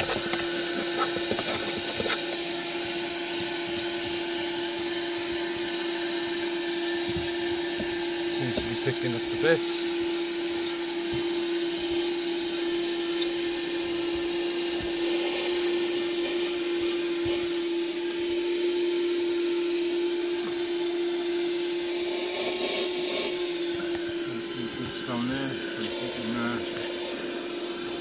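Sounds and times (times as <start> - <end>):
car vacuum cleaner running: 0.0 - 28.0.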